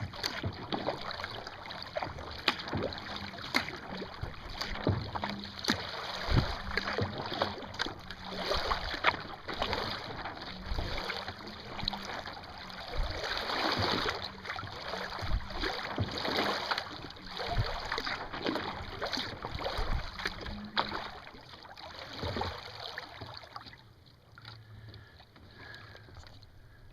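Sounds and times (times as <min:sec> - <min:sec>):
water splashing against kayak hull: 0:00.0 - 0:26.9.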